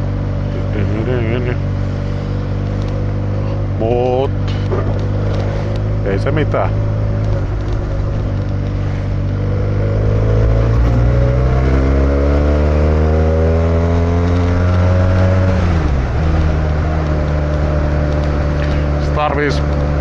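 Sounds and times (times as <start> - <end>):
motorcycle engine accelerating: 0.0 - 20.0
wind and road noise: 0.0 - 20.0.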